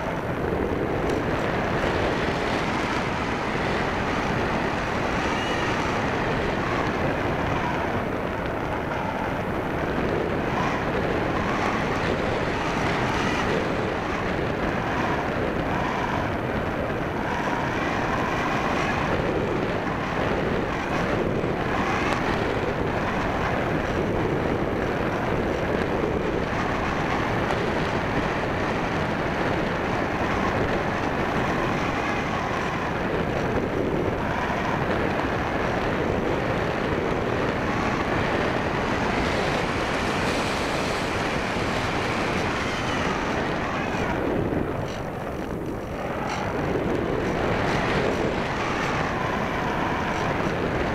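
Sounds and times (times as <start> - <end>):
wind rushing over camera: 0.0 - 50.9.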